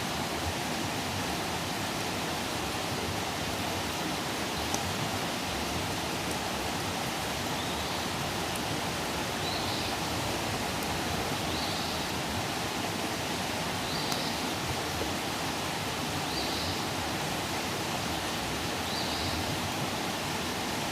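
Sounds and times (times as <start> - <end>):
campfire hissing and crackling: 0.0 - 20.9.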